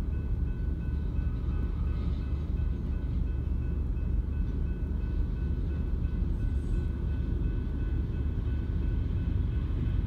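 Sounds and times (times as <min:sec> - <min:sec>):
freight train wheels rumbling: 0:00.0 - 0:10.0.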